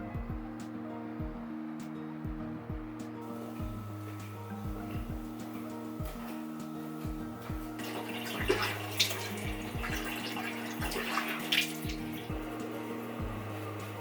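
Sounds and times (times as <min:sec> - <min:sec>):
background music with beat: 0:00.0 - 0:14.0
water running: 0:02.2 - 0:14.0.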